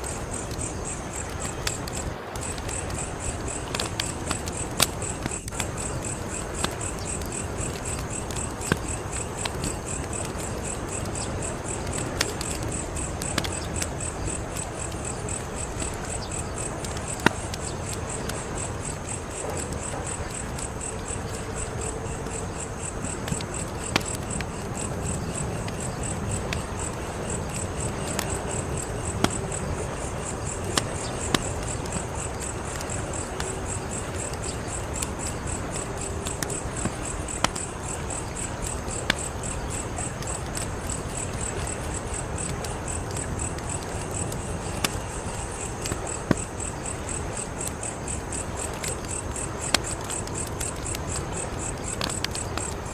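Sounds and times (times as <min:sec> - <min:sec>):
crickets chirping: 0:00.0 - 0:52.9
wood fire crackling and popping: 0:00.0 - 0:52.9.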